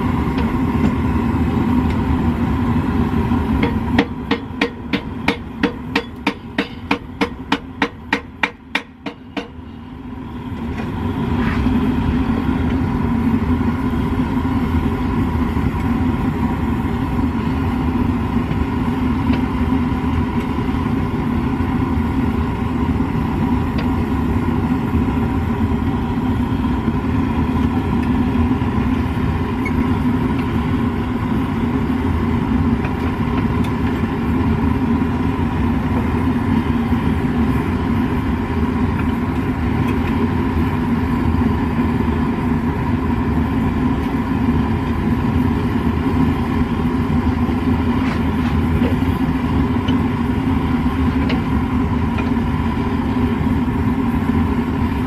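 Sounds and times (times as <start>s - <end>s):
gas forge burners roaring: 0.0s - 55.0s.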